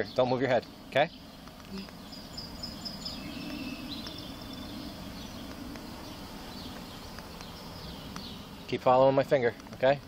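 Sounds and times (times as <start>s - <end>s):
birds chirping and trilling: 0.0s - 10.0s
outdoor background noise: 0.0s - 10.0s
low hum: 0.2s - 9.7s.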